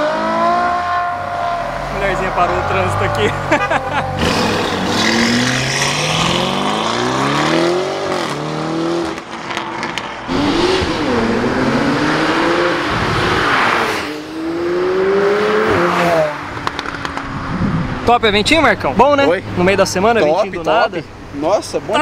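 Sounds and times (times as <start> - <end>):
supercar engines revving hard: 0.0 - 18.4.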